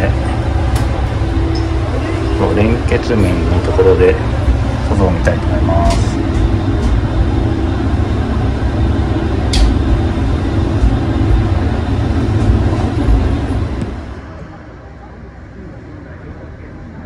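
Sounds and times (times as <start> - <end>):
diesel railcar engine rumble: 0.0 - 17.0.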